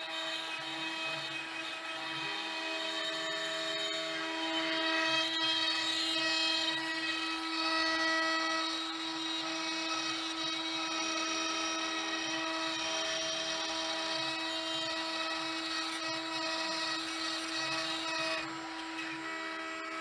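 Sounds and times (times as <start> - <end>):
router spindle whine: 0.0 - 20.0.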